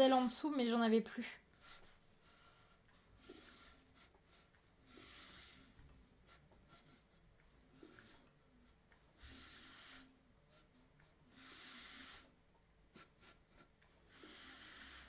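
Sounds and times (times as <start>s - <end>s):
faint breathing: 1.4s - 15.0s.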